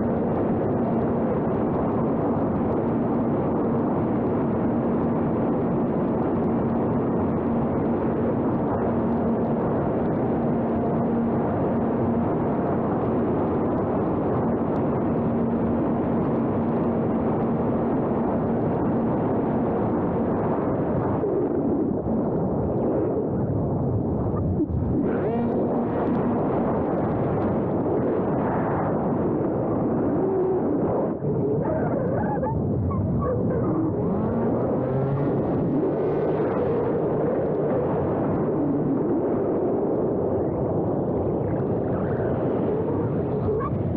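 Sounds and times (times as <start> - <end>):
faint steady hum: 0.0 - 43.9
wind buffeting microphone: 0.0 - 43.9.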